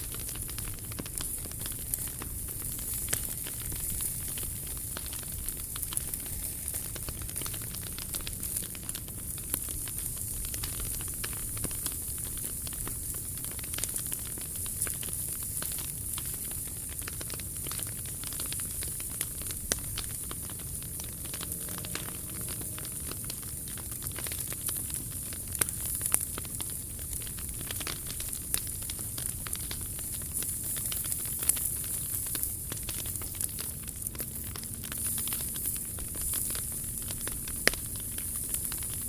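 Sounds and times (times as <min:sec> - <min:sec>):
fire popping: 0:00.0 - 0:39.0
wood fire crackling: 0:00.0 - 0:39.0.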